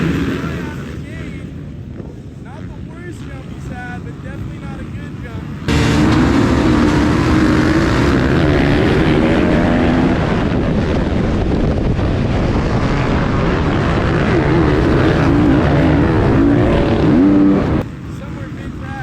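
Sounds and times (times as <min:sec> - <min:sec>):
dirt bikes racing: 0:00.0 - 0:19.0.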